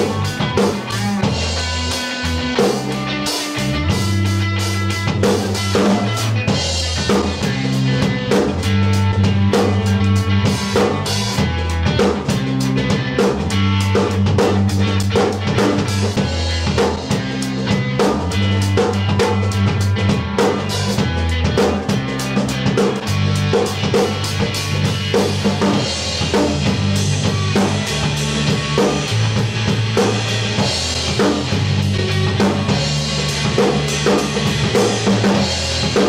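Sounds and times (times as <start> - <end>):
drum kit beat: 0.0 - 36.0
funk band playing: 0.0 - 36.0.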